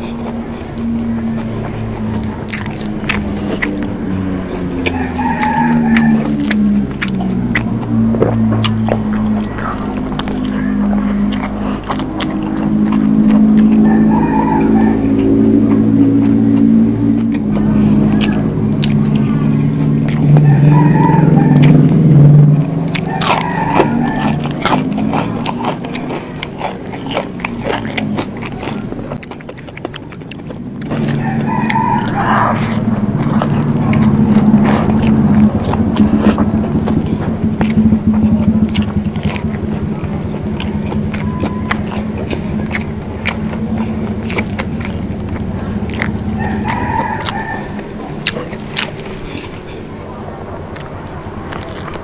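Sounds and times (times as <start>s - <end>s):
wet mouth clicks and smacks: 0.0s - 4.0s, 4.8s - 49.8s
biting and chewing: 0.0s - 52.0s
passing vehicle engine hum: 0.0s - 52.0s.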